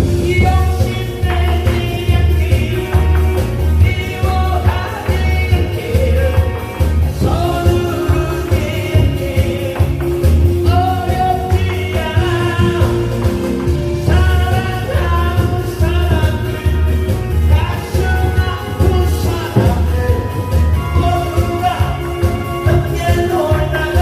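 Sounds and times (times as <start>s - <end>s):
heavy bass beat: 0.0s - 24.0s
person singing: 0.0s - 24.0s.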